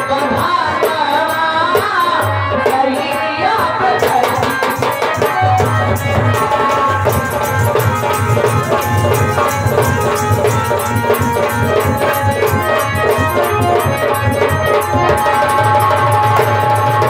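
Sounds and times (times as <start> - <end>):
hand drum rhythm: 0.0 - 17.0
held melody line: 3.2 - 17.0.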